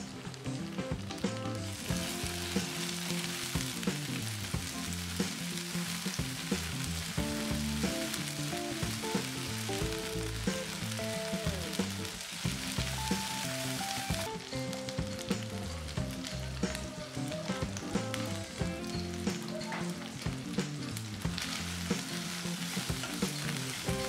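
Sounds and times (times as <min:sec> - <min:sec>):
onions sizzling in hot oil: 0:00.0 - 0:24.0
soft background music: 0:00.0 - 0:24.0.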